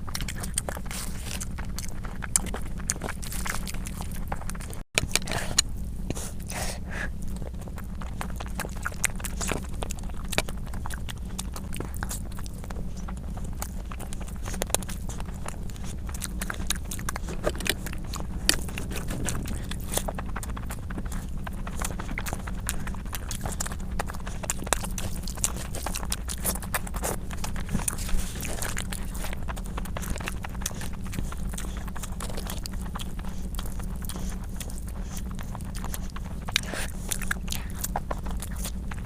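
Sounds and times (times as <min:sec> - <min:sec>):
chewing and mouth noises: 0:00.0 - 0:39.0
steady low hum: 0:00.0 - 0:39.0.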